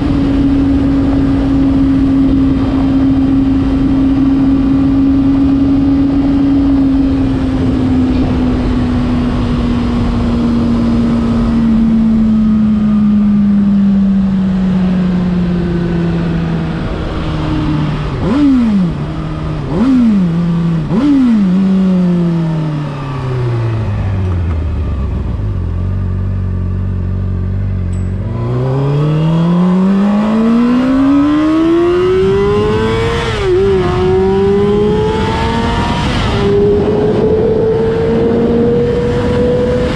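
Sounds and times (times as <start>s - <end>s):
wind noise: 0.0s - 25.6s, 27.9s - 39.9s
motorcycle engine revving: 0.0s - 39.9s.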